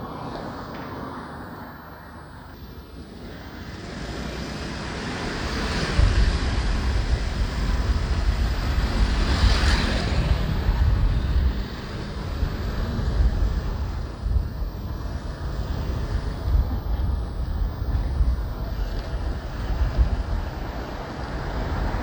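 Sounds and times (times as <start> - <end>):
motorbike road noise: 0.0 - 22.0
wind rumbling on microphone: 4.0 - 22.0.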